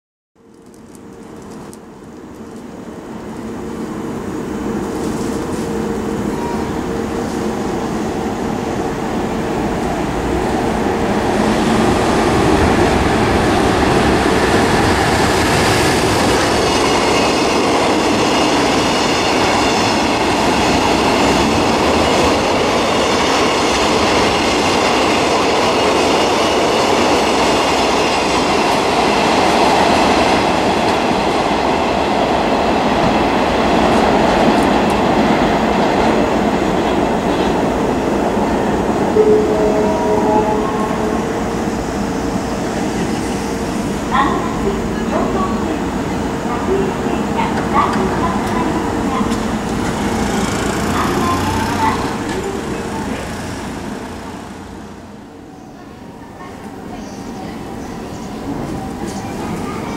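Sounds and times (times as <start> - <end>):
freight train rumbling past: 1.3 - 59.9.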